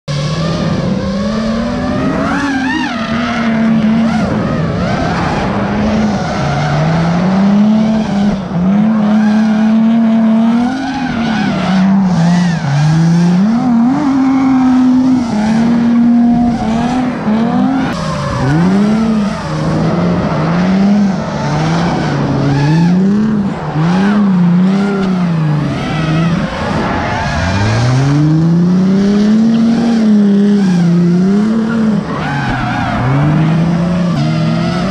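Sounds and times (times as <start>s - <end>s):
car engines revving hard: 0.1s - 34.9s
tire squeal: 0.1s - 34.9s.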